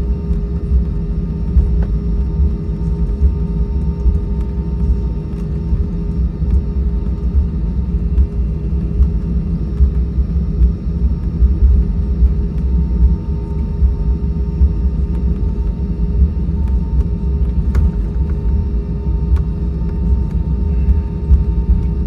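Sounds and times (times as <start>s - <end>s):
airplane cabin rumble: 0.0s - 22.0s
jet engines idling hum: 0.0s - 22.0s.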